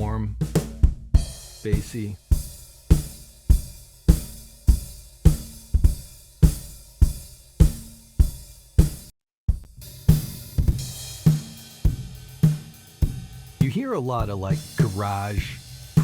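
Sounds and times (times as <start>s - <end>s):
drum kit playing pop groove: 0.0s - 16.0s.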